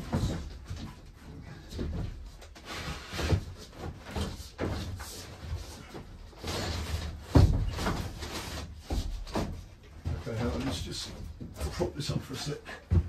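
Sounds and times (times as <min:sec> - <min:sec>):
ceiling panel knocking and scraping: 0:00.0 - 0:11.9.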